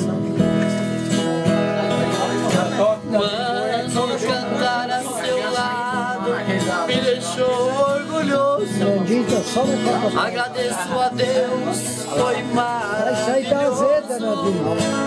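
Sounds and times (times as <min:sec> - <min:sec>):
acoustic guitar strumming: 0:00.0 - 0:15.0
man singing: 0:01.2 - 0:15.0.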